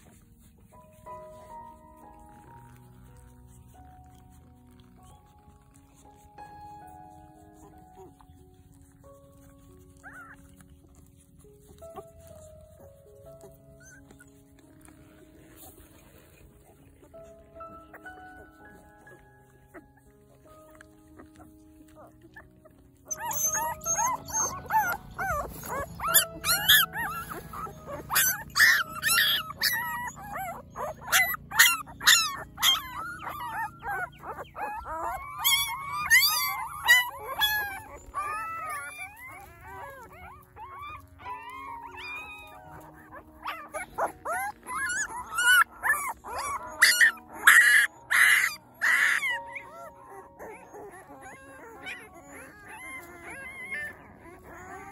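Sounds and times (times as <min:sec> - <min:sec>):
puppies whimpering and squealing: 0:00.0 - 0:54.9.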